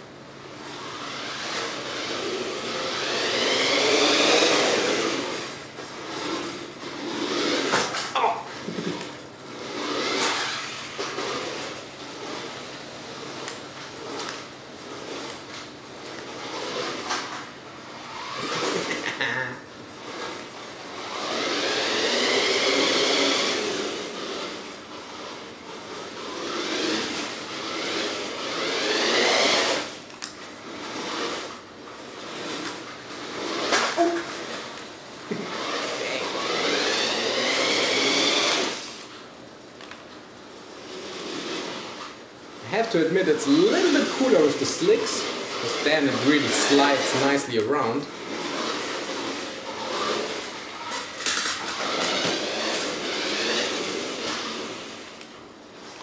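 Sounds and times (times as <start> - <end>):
toy car motor whirring: 0.6 - 39.2, 40.8 - 55.2.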